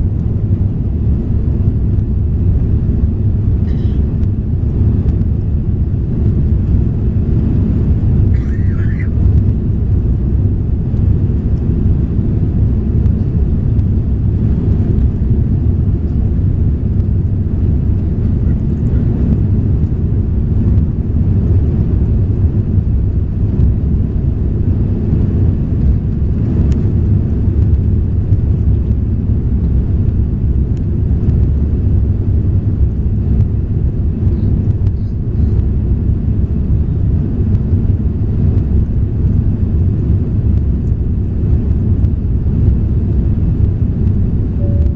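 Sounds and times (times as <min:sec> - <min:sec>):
aircraft cabin engine roar: 0:00.0 - 0:44.9.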